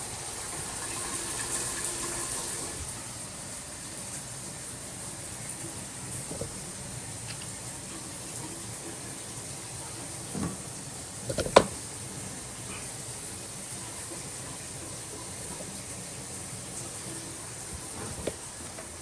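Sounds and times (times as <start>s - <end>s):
water flowing into washer: 0.0s - 19.0s.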